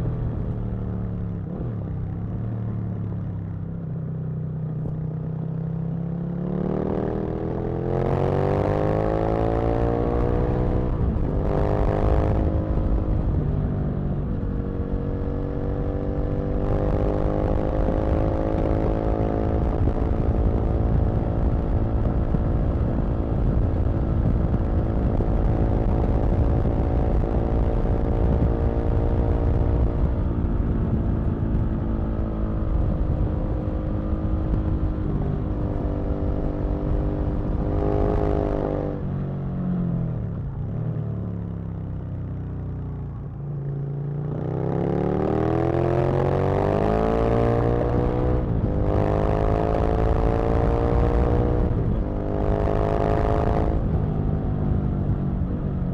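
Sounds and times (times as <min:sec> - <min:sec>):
motorcycle engine revving: 0:06.1 - 0:55.9.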